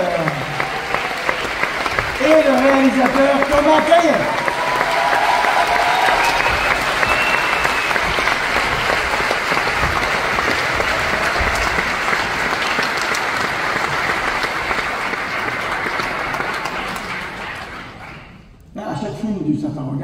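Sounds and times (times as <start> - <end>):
audience applauding: 0.0 - 18.5.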